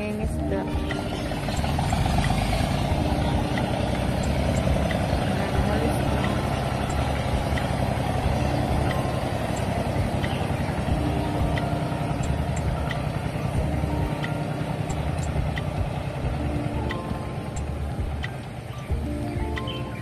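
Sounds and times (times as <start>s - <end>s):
boat engine chugging: 0.0s - 20.0s.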